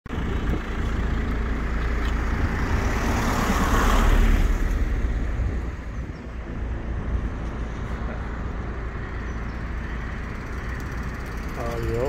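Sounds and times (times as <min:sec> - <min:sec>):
road traffic rumble: 0:00.1 - 0:12.0
vehicle passing by: 0:00.4 - 0:12.0.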